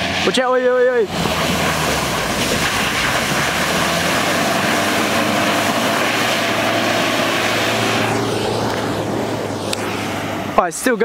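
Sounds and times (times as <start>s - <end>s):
mud and water spraying: 0.0s - 10.4s
car engine running hard: 0.0s - 11.0s.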